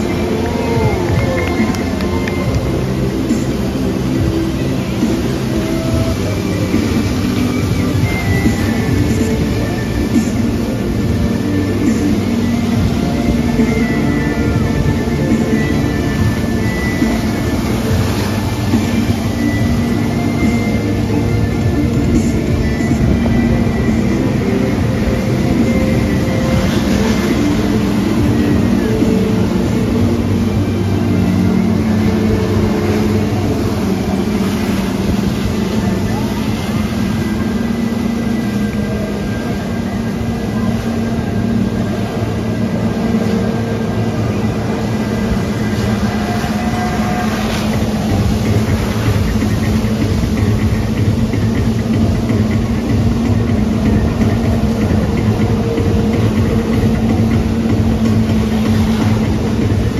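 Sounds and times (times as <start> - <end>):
jet ski engine running: 0.0 - 59.9
water rushing noise: 0.0 - 59.9.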